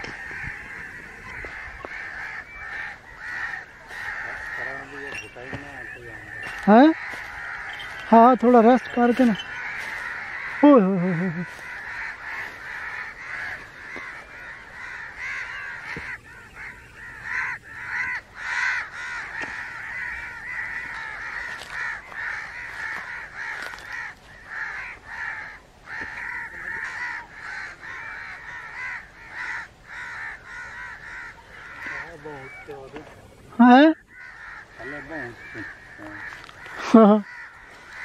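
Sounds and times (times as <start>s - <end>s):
crows cawing: 0.0s - 38.0s.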